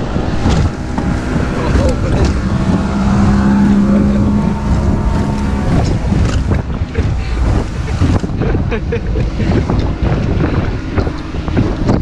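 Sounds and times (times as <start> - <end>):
outboard engine running: 0.0 - 12.0
wind rushing on microphone: 0.0 - 12.0.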